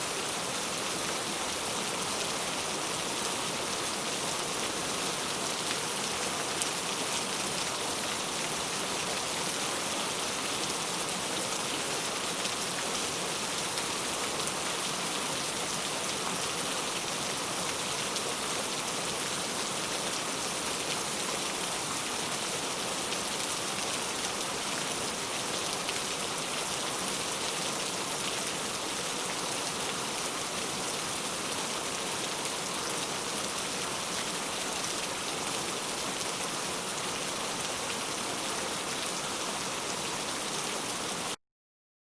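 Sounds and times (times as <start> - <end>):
steady rain falling: 0.0 - 41.4.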